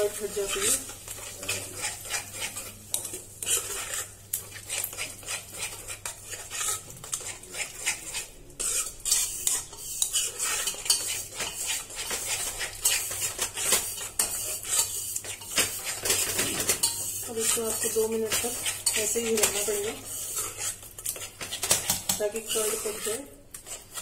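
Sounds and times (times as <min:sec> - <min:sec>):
faint sizzle: 0:00.0 - 0:24.0
spatula scraping a pan: 0:00.0 - 0:24.0.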